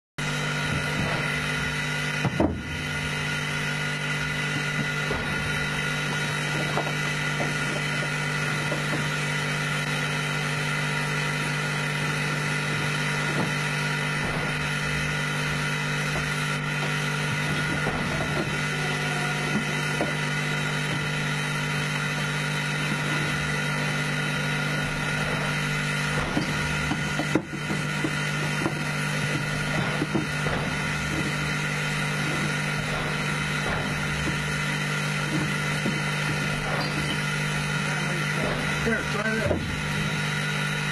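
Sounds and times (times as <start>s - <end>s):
locomotive cab hum and hiss: 0.2s - 40.9s.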